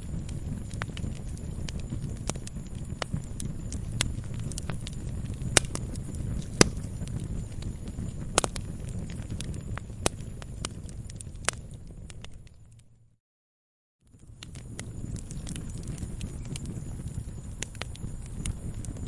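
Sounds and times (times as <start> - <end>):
wood fire crackling: 0.0 - 13.1, 14.1 - 19.0.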